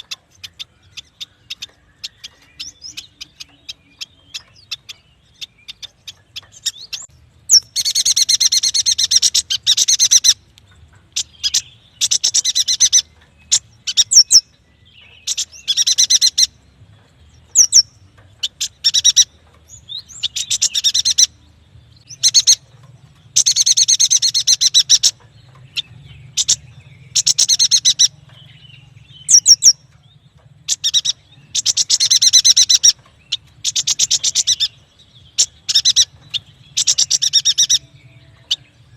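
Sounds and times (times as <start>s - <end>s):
bird trilling chatter: 0.0s - 16.6s, 17.5s - 21.4s, 22.0s - 38.9s.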